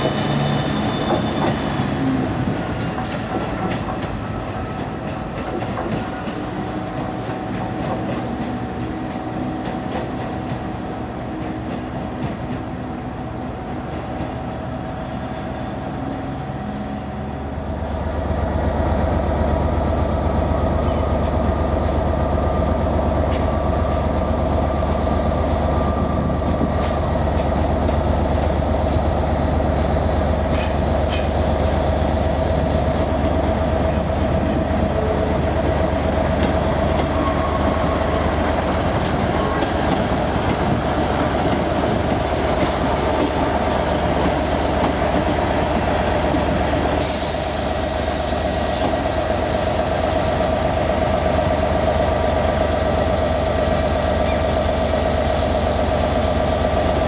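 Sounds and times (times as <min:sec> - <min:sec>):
train wheel squeals: 0:00.0 - 0:12.8, 0:13.9 - 0:57.0
diesel train engines humming: 0:00.0 - 0:57.0.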